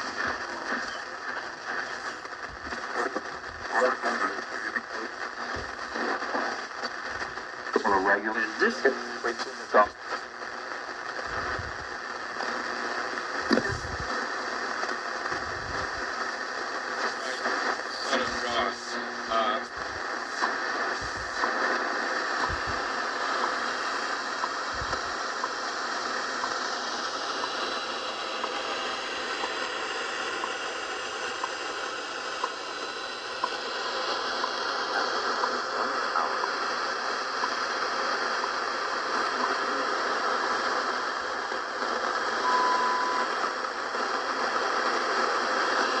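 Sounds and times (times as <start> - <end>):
radio static hiss: 0.0 - 46.0.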